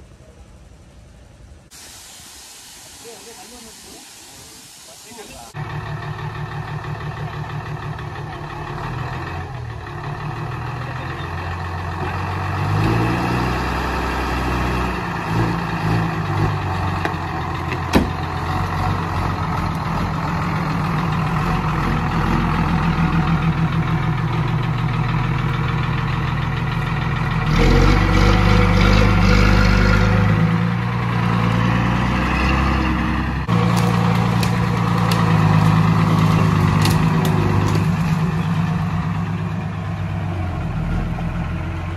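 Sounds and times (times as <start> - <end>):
diesel engine running: 5.5 - 41.9.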